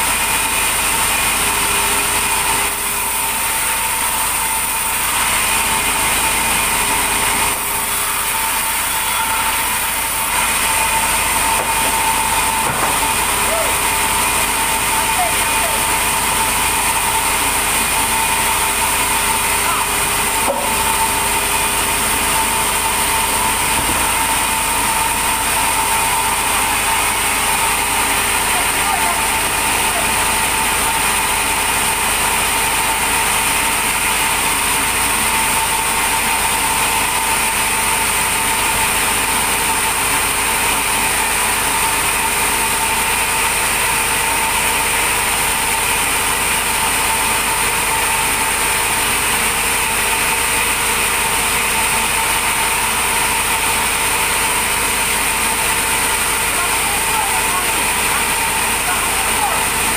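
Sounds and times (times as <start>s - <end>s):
machine whining steadily: 0.0s - 59.9s.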